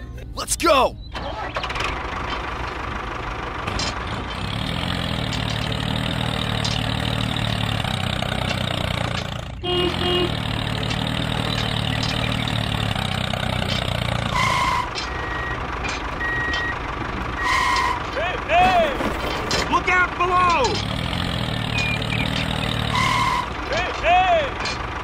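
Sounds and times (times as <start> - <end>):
vehicle engine running: 1.0 - 25.0.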